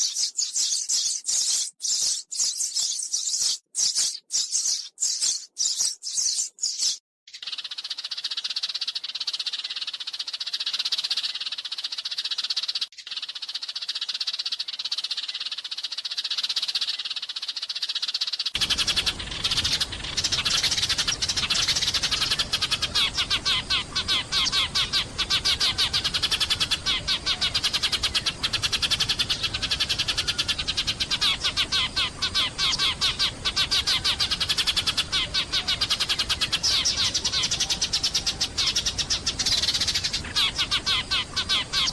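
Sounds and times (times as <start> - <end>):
sparrows chirping: 0.0 - 41.9.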